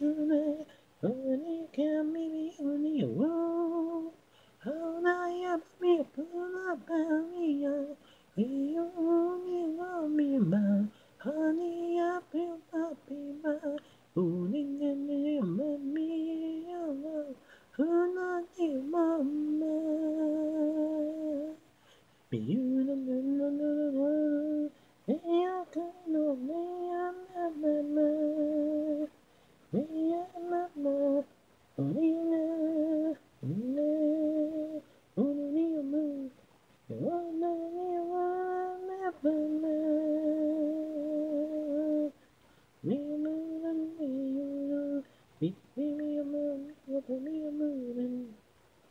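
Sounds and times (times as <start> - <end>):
man singing a cappella: 0.0 - 48.9.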